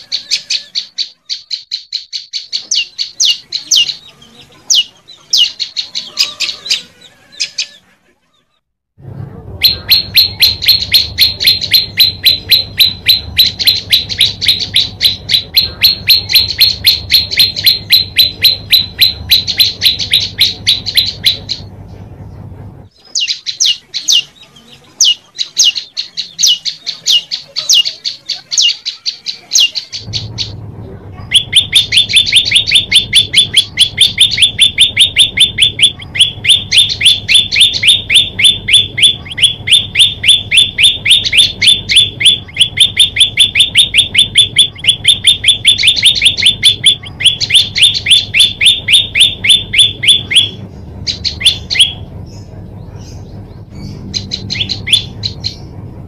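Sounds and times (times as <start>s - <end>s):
bird singing high repeated notes: 0.0s - 7.8s, 9.6s - 21.7s, 23.0s - 30.6s, 31.3s - 52.5s, 53.6s - 55.7s
low hum: 9.0s - 56.0s.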